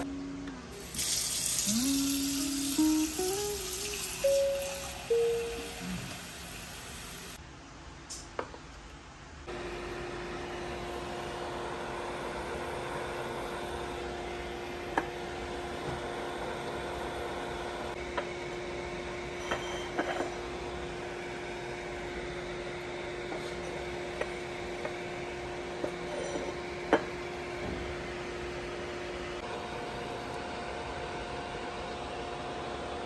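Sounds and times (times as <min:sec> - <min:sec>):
electrical hum and fan: 0:00.0 - 0:33.0.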